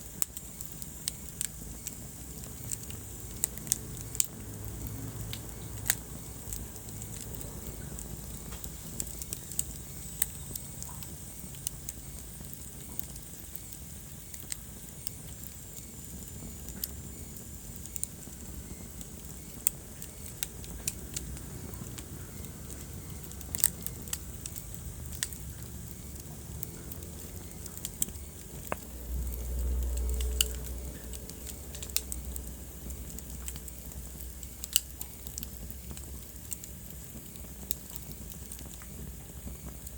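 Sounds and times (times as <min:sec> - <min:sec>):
wood fire burning: 0:00.0 - 0:39.9.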